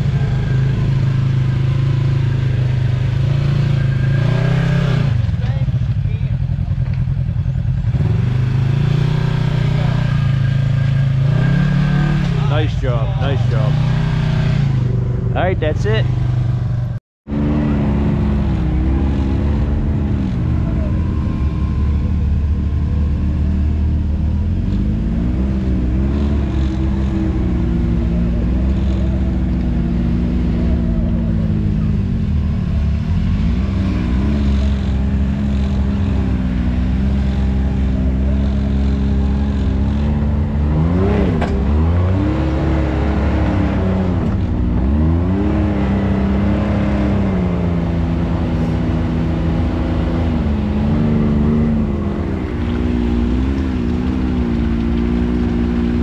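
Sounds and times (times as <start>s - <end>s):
utility vehicle engine running: 0.0s - 56.0s.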